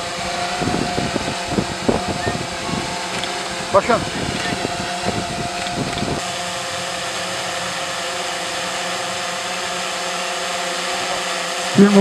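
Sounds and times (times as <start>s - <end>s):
model airplane engine whine: 0.0s - 12.0s.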